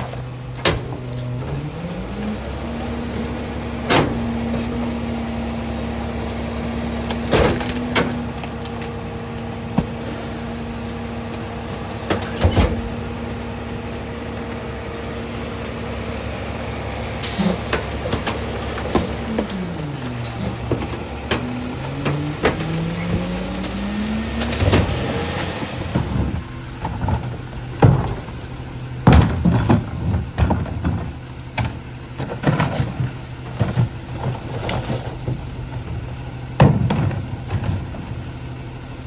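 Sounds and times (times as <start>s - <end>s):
trash being crushed: 0.0s - 38.5s
garbage truck engine revving: 0.0s - 39.0s.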